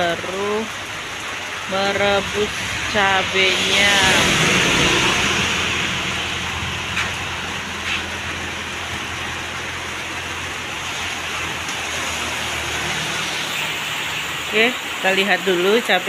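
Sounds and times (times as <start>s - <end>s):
steady rain falling: 0.0s - 16.0s
truck tyres hissing on wet road: 0.0s - 16.0s.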